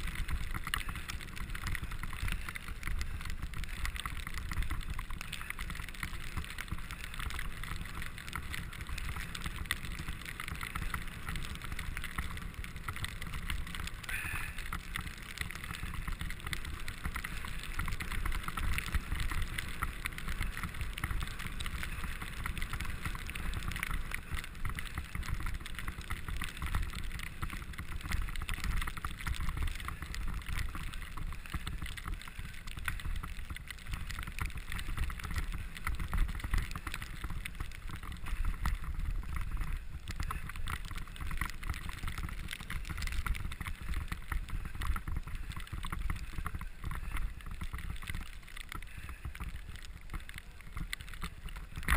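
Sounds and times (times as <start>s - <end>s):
bicycle tyres on snow: 0.0s - 51.9s
bike rattling and clicking: 0.0s - 51.9s
wind rumble on microphone: 0.0s - 51.9s.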